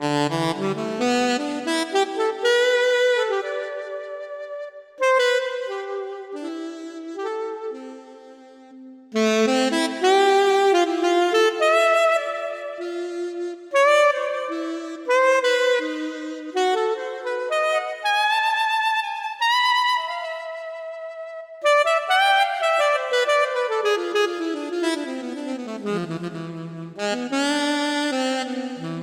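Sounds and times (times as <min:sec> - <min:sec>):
keyboard saxophone melody: 0:00.0 - 0:29.0.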